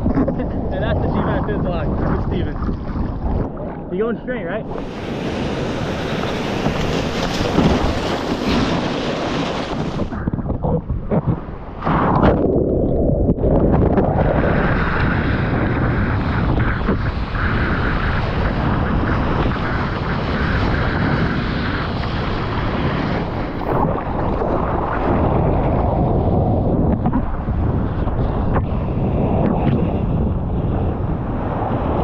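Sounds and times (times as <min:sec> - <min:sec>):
ocean water rushing: 0:00.0 - 0:30.0
wind buffeting microphone: 0:00.0 - 0:32.0.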